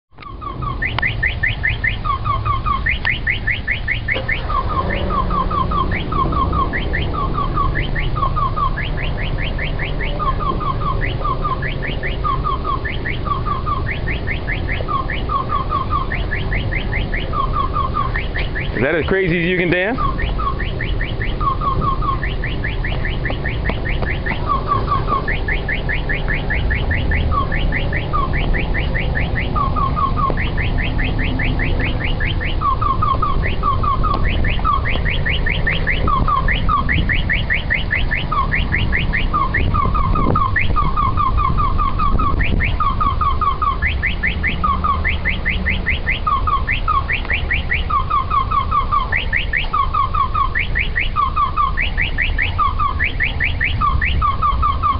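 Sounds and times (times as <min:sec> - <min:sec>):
car alarm chirping: 0:00.1 - 0:54.9.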